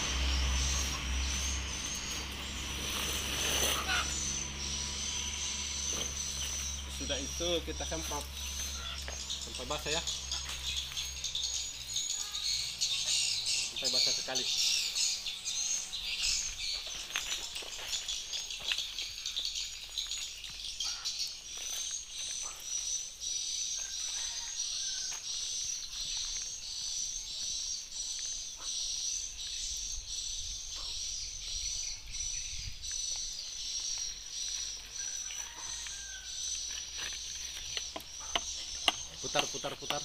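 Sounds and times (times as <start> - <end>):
high-pitched pulsing chirping: 0.0 - 40.0.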